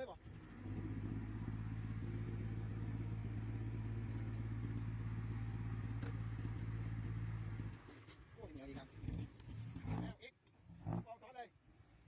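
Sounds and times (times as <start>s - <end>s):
heavy diesel engine under load: 0.0s - 11.1s.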